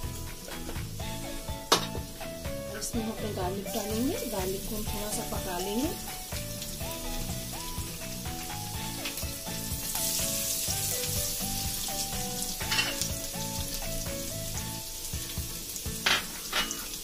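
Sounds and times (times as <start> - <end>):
background music: 0.0 - 17.0
garlic sizzling in hot fat: 0.0 - 17.0.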